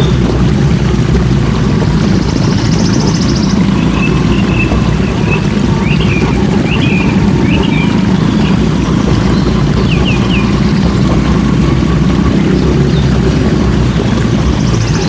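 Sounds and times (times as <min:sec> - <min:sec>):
motorcycle engine rumble: 0:00.0 - 0:15.0
wind buffeting microphone: 0:00.0 - 0:15.0.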